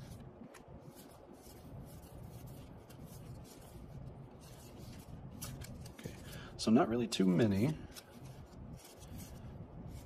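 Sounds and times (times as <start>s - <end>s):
cards rustling and sliding: 0.0s - 6.4s, 7.3s - 10.0s.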